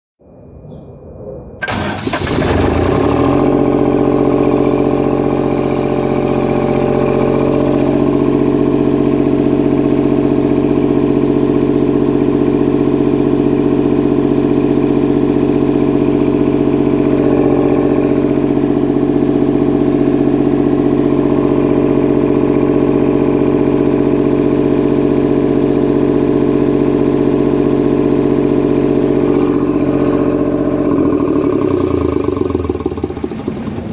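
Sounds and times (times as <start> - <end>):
diesel engine running: 1.6 - 33.9.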